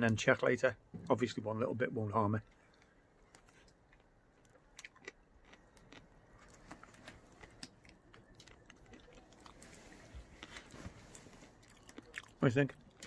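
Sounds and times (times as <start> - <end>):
faint small clicks and crackles: 2.4 - 13.0.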